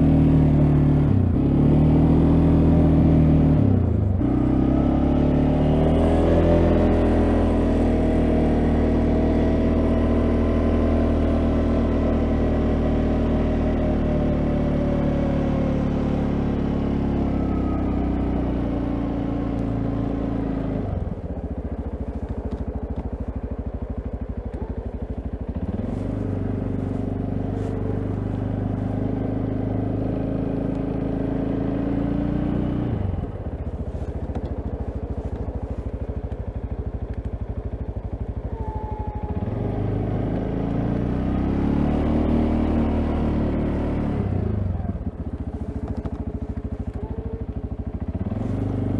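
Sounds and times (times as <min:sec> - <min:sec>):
atv engine revving under load: 0:00.0 - 0:48.9.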